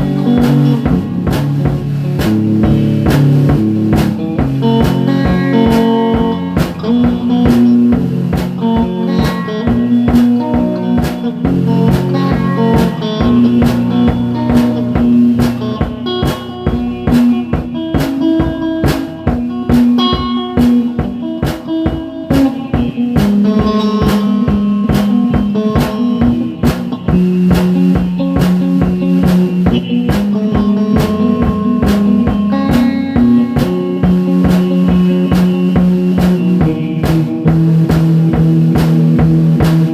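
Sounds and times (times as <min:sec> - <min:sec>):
blues-rock music: 0:00.0 - 0:39.9.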